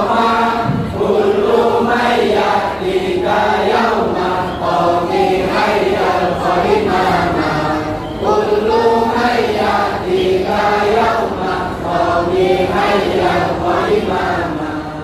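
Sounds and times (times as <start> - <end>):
men singing in unison: 0.0 - 15.0.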